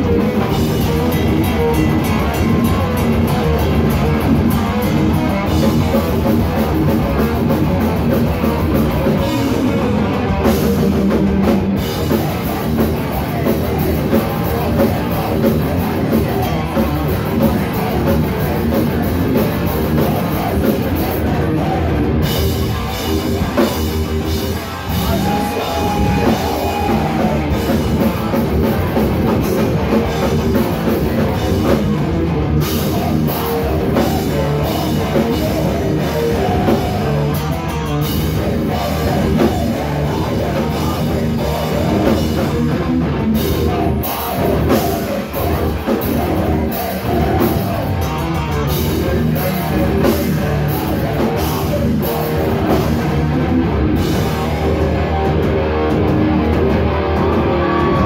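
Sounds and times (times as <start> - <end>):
pounding drum kit: 0.0 - 58.0
rock band playing live: 0.0 - 58.0.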